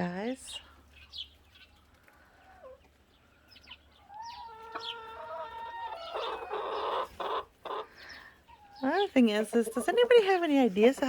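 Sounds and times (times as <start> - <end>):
chickens clucking and squawking: 0.1 - 11.0.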